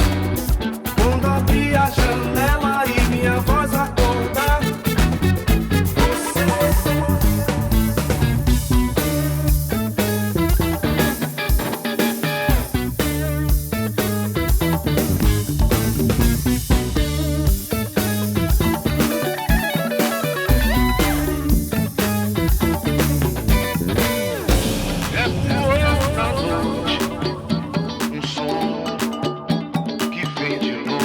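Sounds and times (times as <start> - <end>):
band playing rhythmic music: 0.0 - 31.0.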